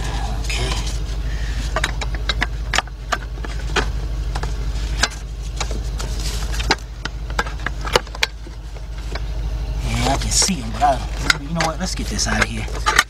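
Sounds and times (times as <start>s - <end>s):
low rumble: 0.0s - 12.9s.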